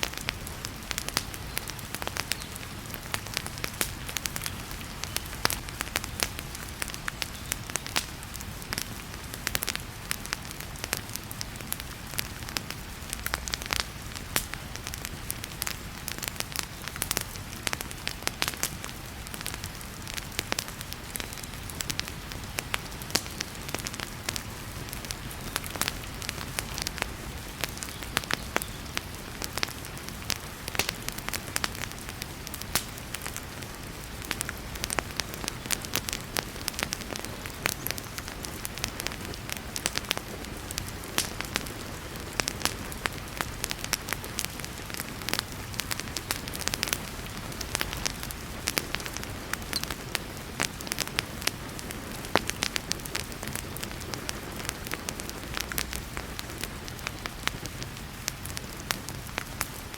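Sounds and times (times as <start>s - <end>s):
heavy rain: 0.0s - 59.9s
wood fire crackling and popping: 0.0s - 59.9s.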